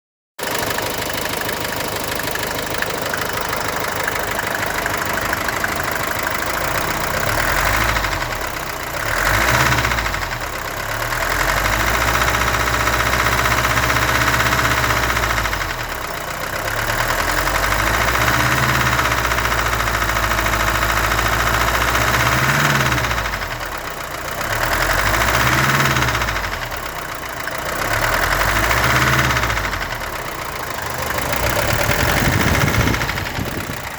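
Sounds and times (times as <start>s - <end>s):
diesel engine idling and revving: 0.4s - 33.9s.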